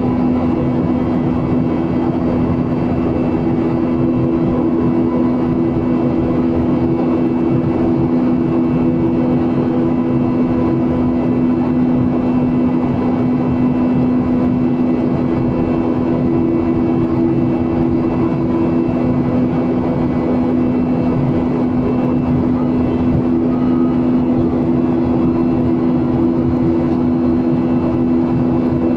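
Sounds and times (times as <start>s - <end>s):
airliner engine and air rush: 0.0s - 28.9s
constant low hum: 0.0s - 28.9s.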